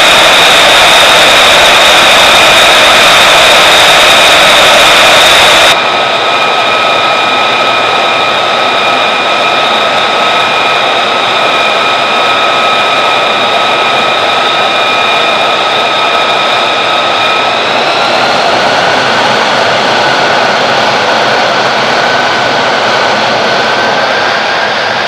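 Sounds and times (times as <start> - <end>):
jet engine idling with whine: 0.0 - 25.0.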